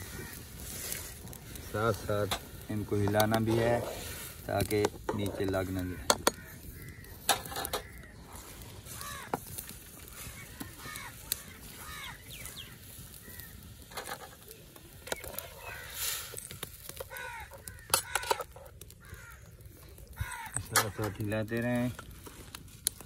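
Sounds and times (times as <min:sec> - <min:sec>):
crows cawing: 0:00.0 - 0:03.4, 0:05.2 - 0:14.3, 0:15.0 - 0:22.0.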